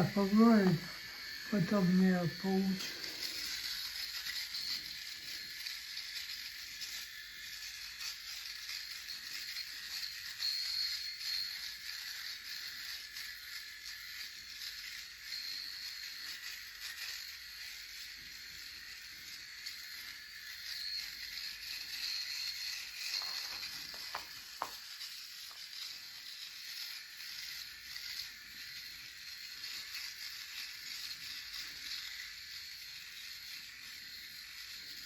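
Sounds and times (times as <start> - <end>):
electric shaver whining: 0.0 - 35.0.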